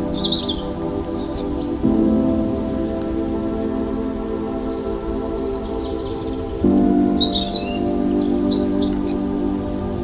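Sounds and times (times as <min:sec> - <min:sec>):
birds chirping: 0:00.0 - 0:10.0
soft held music chord: 0:00.0 - 0:10.0.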